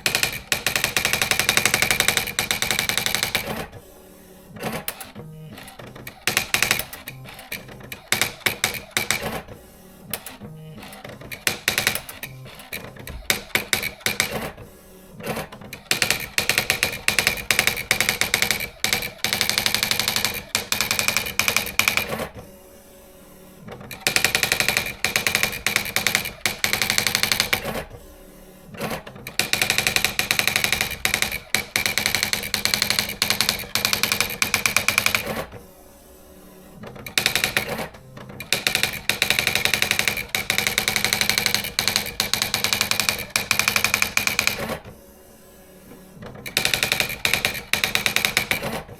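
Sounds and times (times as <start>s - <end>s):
electronic typewriter typing: 0.0s - 3.7s, 4.6s - 9.5s, 10.2s - 14.6s, 15.2s - 22.4s, 23.7s - 27.9s, 28.8s - 35.6s, 36.9s - 44.9s, 46.4s - 48.9s.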